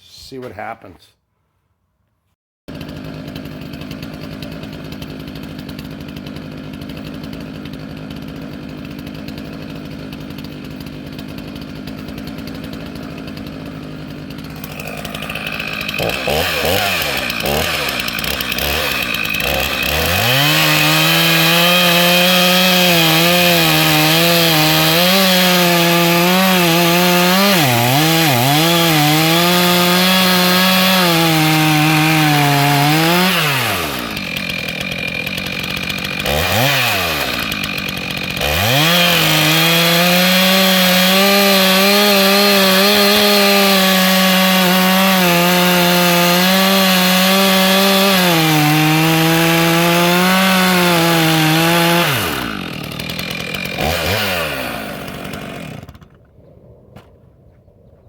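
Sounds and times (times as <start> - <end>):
chainsaw cutting log: 2.7 - 56.3.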